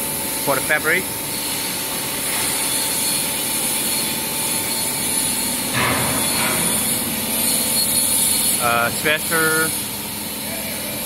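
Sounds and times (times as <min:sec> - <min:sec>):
machinery hum and hiss: 0:00.0 - 0:11.0.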